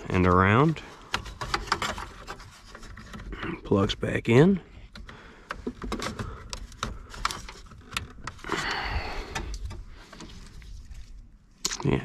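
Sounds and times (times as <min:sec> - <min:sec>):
wiring rustling scrape: 0:00.0 - 0:04.0, 0:04.9 - 0:11.7.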